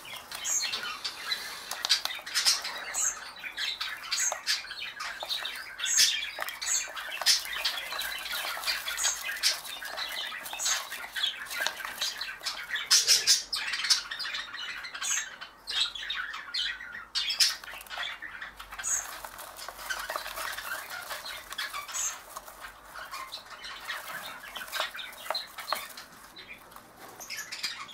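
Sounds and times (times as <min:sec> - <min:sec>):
wings fluttering in wood shavings: 0:00.0 - 0:15.4, 0:16.2 - 0:27.9
young birds begging calls: 0:00.0 - 0:27.9.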